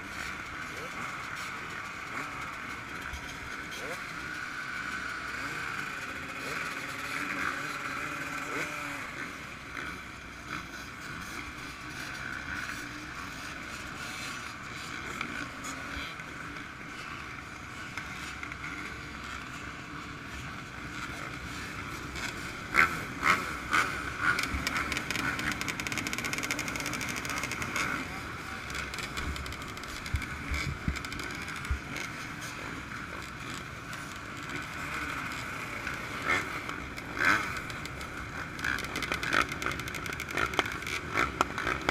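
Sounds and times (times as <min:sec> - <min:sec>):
muffled motorbike engines: 0:00.0 - 0:41.9.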